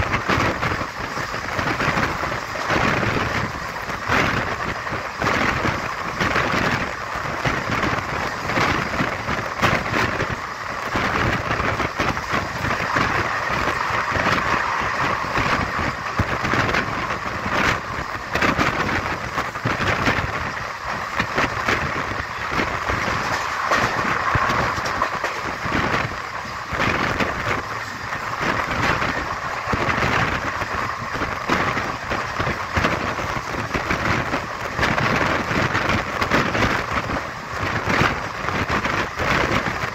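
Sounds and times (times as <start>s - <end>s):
moving vehicle running noise: 0.0s - 39.9s.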